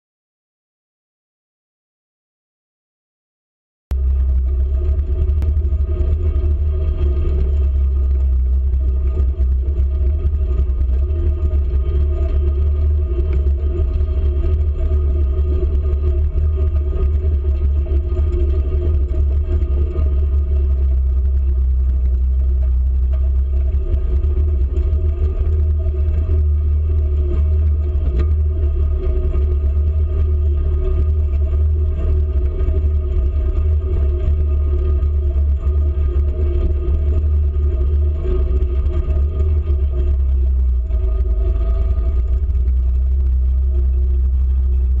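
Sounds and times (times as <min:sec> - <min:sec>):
heavy low rumble: 0:03.9 - 0:45.0
utility vehicle engine hum: 0:03.9 - 0:45.0.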